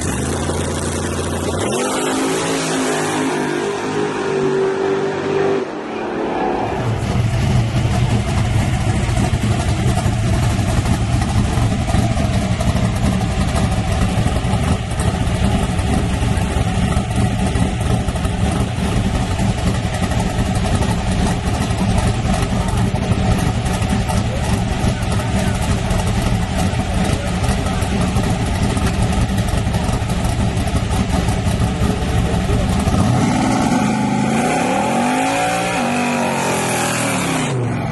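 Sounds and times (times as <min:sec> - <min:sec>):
truck engine idling loudly: 0:00.0 - 0:01.9, 0:06.8 - 0:37.9.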